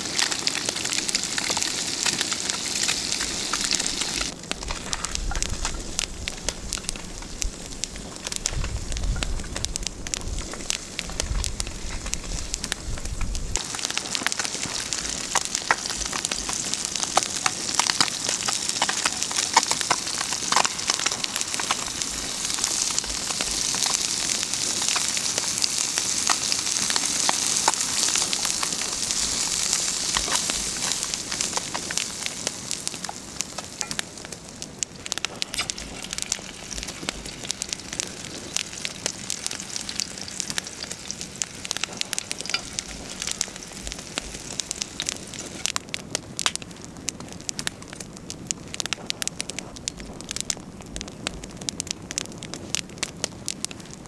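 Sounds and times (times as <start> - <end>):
campfire crackling and popping: 0.0 - 54.0
fish sizzling in a skillet: 0.0 - 54.0.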